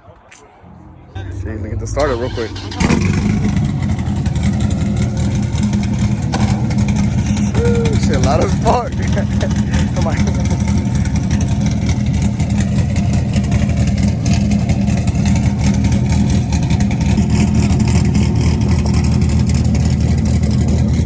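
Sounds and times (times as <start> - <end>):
sports car engine rumbling: 0.8 - 21.0.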